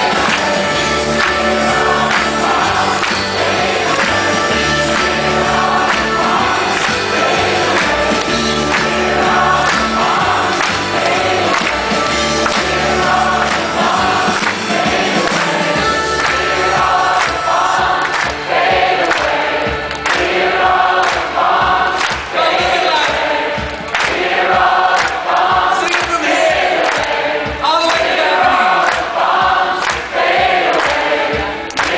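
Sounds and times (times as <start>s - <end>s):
band playing with steady beat: 0.0s - 31.9s
crowd singing: 0.0s - 31.9s.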